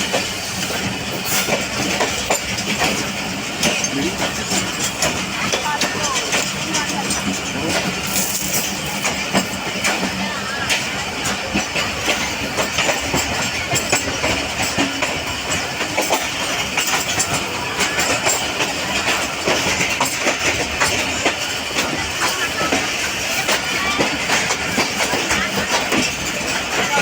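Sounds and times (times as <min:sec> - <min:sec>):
train rumble: 0:00.0 - 0:27.0
train wheels clattering over rail joints: 0:00.0 - 0:27.0.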